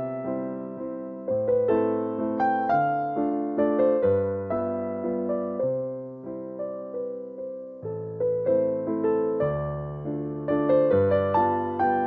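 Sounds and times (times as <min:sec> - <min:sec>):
piano notes and chords: 0:00.0 - 0:12.0.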